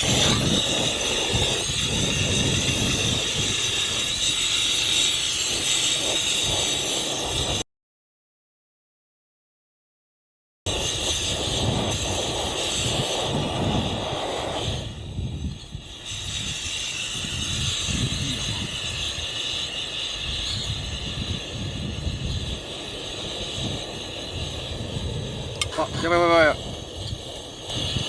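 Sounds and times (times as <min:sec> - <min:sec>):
camp stove burner hissing: 0:00.0 - 0:07.6, 0:10.7 - 0:28.0.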